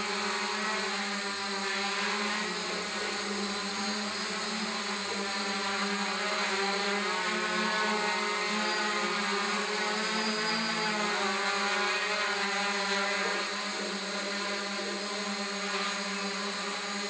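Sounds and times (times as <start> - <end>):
drone propellers buzzing: 0.0 - 17.0
high motor whine: 0.0 - 17.0.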